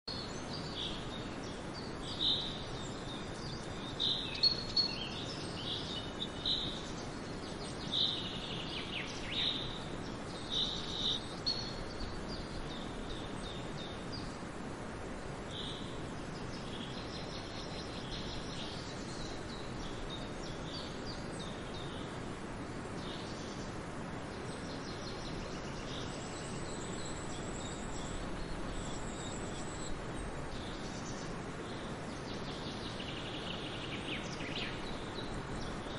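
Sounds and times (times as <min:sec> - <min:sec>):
background hiss: 0:00.0 - 0:35.9
birds chirping: 0:00.0 - 0:35.9.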